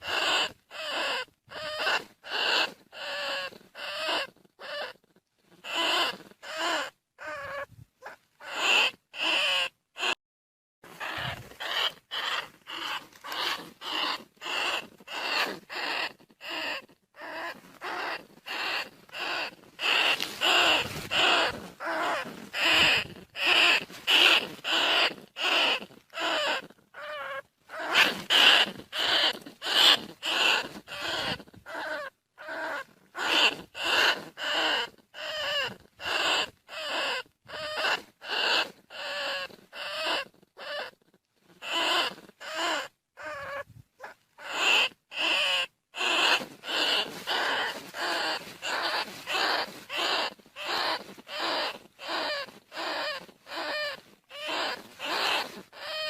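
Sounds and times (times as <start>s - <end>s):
squeaky rat calls: 0.0s - 10.2s, 10.9s - 56.0s.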